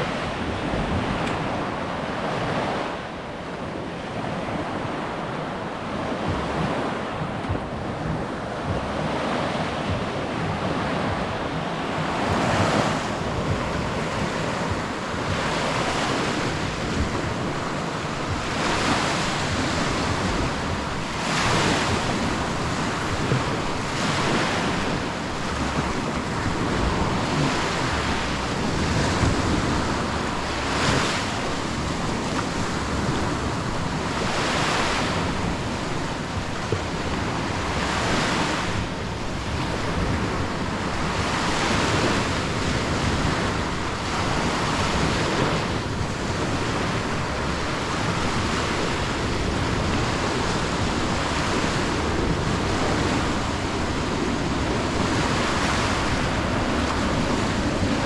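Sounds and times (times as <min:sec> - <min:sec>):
sea waves breaking on beach: 0:00.0 - 0:58.0
wind rumbling on microphone: 0:00.0 - 0:58.0.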